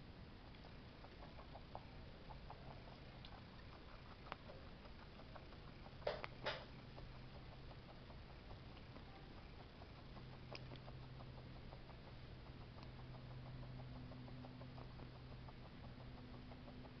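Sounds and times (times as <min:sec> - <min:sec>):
guinea pig chewing: 0:00.0 - 0:17.0
low hum: 0:00.0 - 0:17.0.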